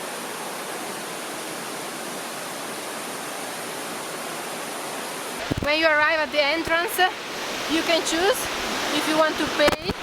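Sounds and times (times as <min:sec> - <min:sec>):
waterfall and river rushing: 0:00.0 - 0:10.0.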